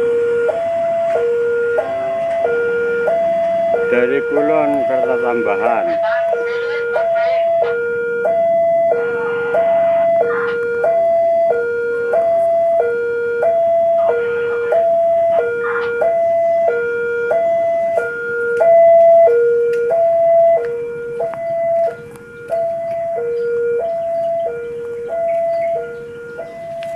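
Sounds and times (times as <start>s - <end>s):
level crossing two-tone alarm: 0.0s - 26.9s.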